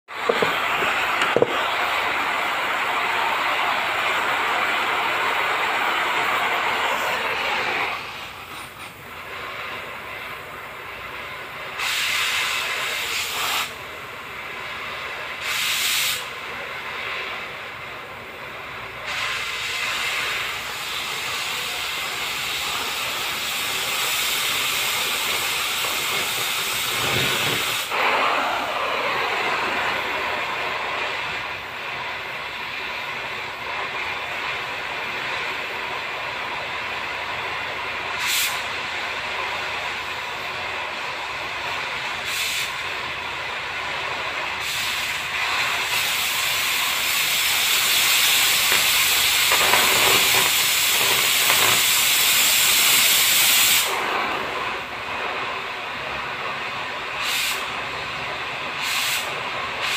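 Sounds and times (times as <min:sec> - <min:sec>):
cutting torch hissing: 0:00.1 - 0:59.9.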